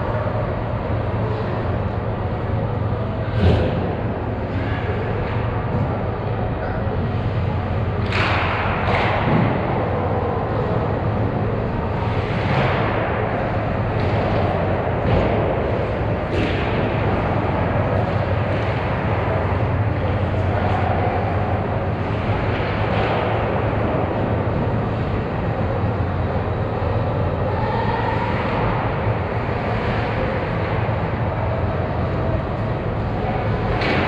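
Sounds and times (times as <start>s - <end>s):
low hum and hiss: 0.0s - 34.0s.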